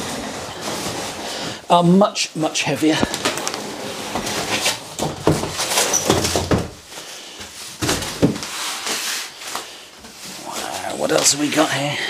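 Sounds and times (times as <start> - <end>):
bubble wrap rustling: 0.0 - 11.9.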